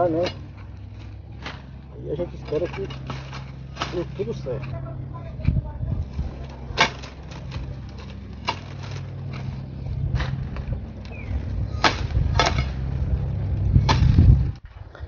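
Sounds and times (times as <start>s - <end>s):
dry branches snapping: 0.0s - 14.7s
low rumble: 0.0s - 15.0s.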